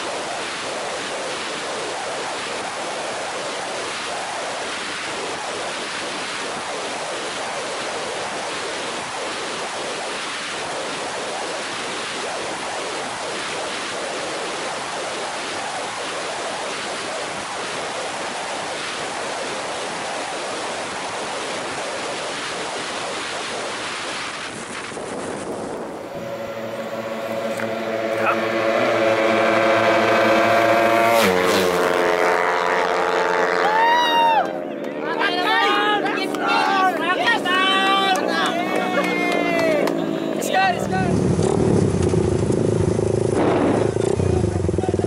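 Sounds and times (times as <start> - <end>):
wind roaring over microphone: 0.0 - 45.0.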